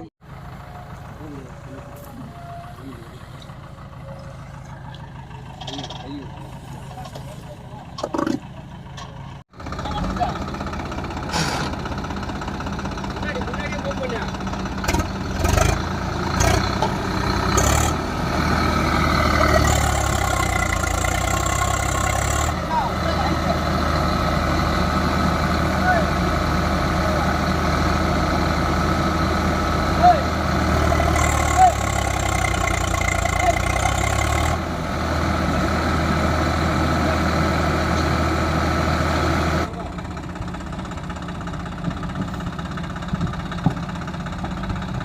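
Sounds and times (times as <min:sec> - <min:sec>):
heavy diesel engine droning: 0:00.0 - 0:45.0.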